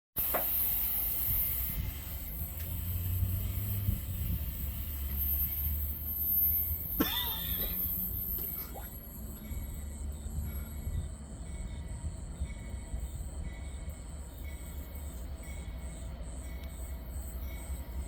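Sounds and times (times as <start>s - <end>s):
diesel freight train rumbling: 0.2s - 18.0s.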